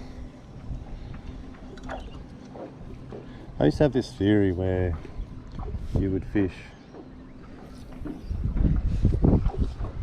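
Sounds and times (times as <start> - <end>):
wind buffeting microphone: 0.0 - 6.6, 7.9 - 10.0.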